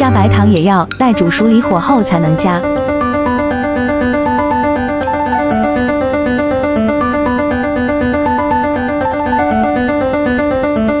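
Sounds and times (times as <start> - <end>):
keyboard music: 0.0 - 11.0.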